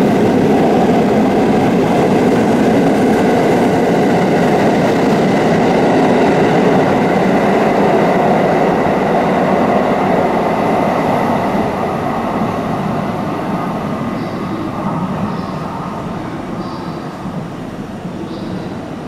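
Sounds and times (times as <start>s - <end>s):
electric train running on rails: 0.0s - 19.0s.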